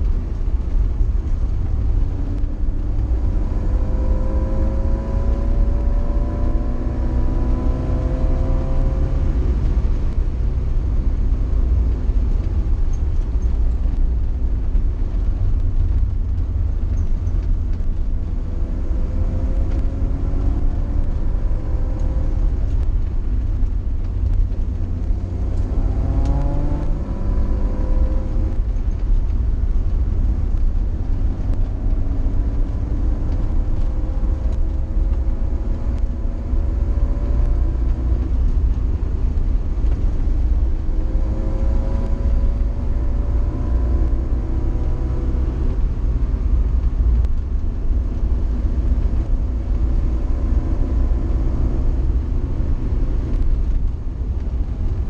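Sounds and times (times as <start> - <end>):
car engine accelerating through gears: 0.0 - 55.0
low rumble of engine and road: 0.0 - 55.0.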